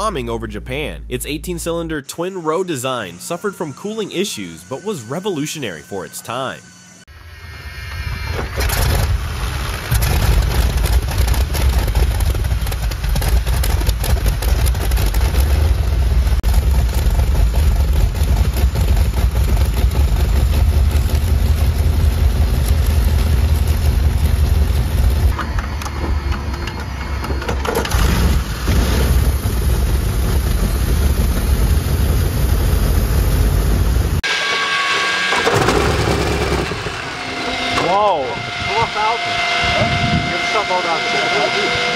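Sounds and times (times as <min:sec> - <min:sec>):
radial aircraft engine starting and running: 0:00.0 - 0:41.9.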